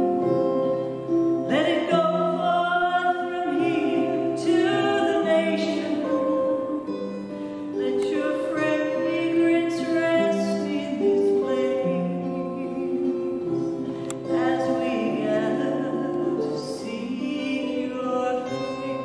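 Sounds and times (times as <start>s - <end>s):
instrumental accompaniment: 0.0s - 19.0s
woman singing: 1.5s - 7.1s, 7.7s - 19.0s.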